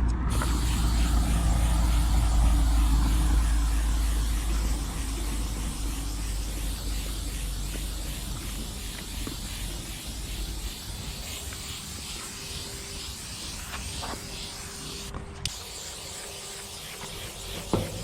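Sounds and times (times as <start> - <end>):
spray paint can hissing: 0.1 - 18.0.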